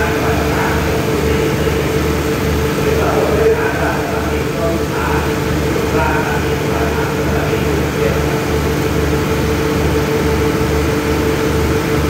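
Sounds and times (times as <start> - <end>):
diesel train engines idling: 0.0 - 12.0.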